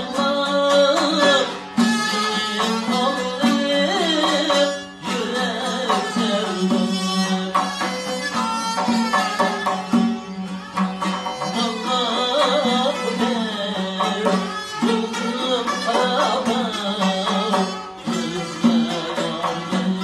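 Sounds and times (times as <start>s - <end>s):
bowed lute: 0.0s - 20.0s
plucked lute: 0.0s - 20.0s.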